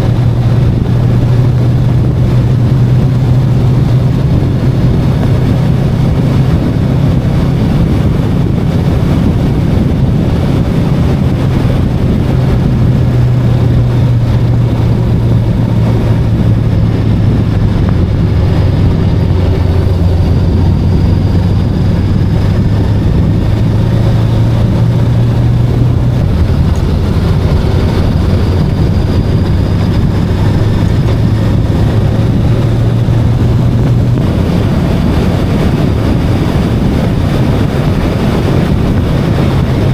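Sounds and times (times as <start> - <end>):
motorcycle engine drone: 0.0 - 39.9
wind and road noise: 0.0 - 39.9.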